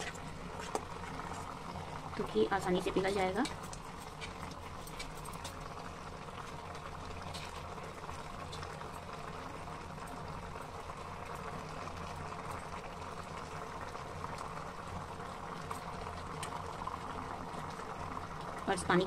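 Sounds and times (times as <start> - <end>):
water boiling in a pan: 0.0 - 19.0.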